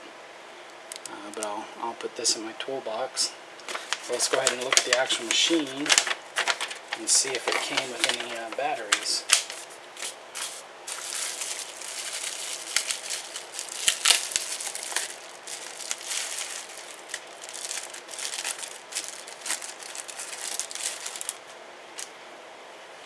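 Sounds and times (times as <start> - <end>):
bubble-wrap pouch crinkling: 3.6 - 22.1.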